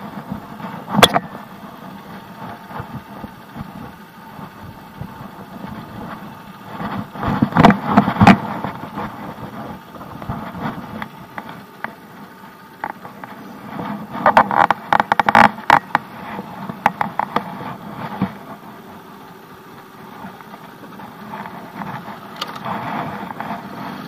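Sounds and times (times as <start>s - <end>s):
small motorcycle engine idling: 0.0s - 24.0s.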